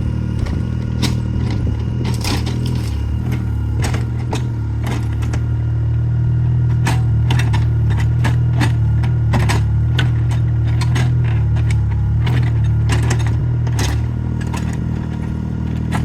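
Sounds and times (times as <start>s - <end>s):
machine clanks and knocks: 0.0s - 5.5s, 6.5s - 16.0s
excavator engine running: 0.0s - 16.0s.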